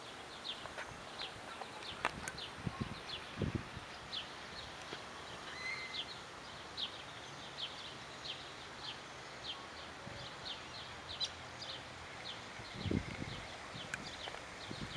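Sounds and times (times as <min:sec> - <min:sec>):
faint outdoor hiss: 0:00.0 - 0:14.9
small bird chirping: 0:00.0 - 0:14.9.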